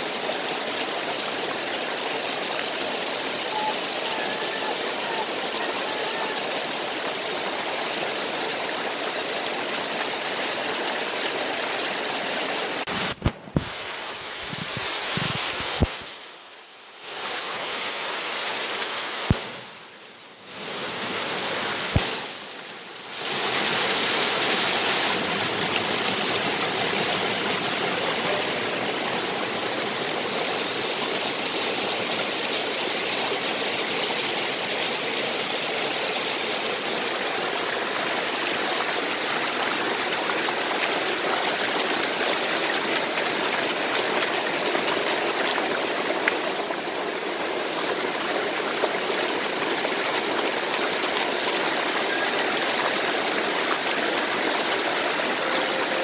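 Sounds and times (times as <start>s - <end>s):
stream and waterfall rushing: 0.0s - 56.0s.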